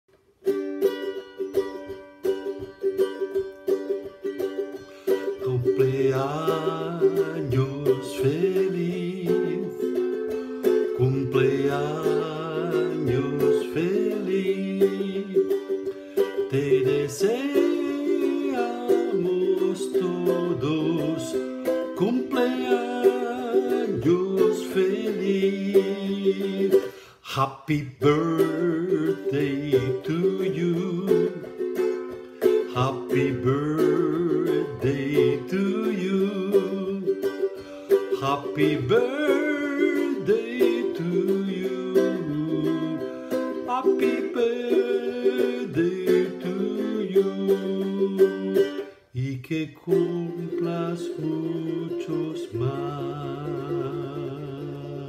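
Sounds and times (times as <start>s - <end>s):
ukulele strumming: 0.1s - 55.0s
man singing: 5.0s - 55.0s.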